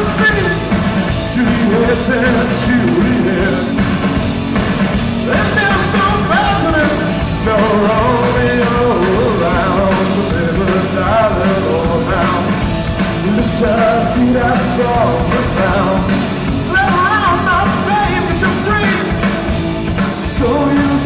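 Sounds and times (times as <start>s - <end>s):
man singing into a microphone: 0.0s - 3.8s, 5.2s - 19.2s, 20.2s - 21.0s
electric guitar: 0.0s - 21.0s
live rock band playing: 0.0s - 21.0s.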